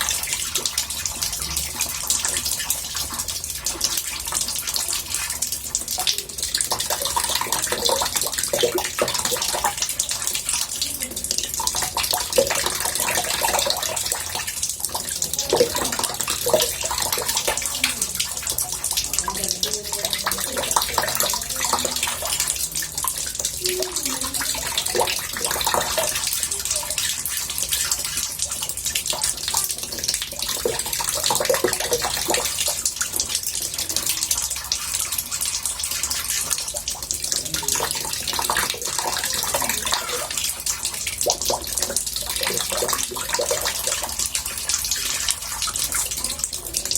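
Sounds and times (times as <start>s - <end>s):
water running into bathtub: 0.0s - 46.9s.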